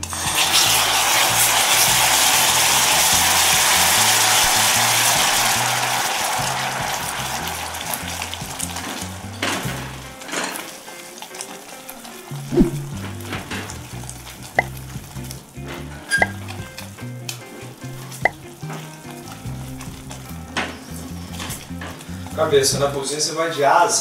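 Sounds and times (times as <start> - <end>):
syrup boiling and sizzling: 0.0 - 24.0.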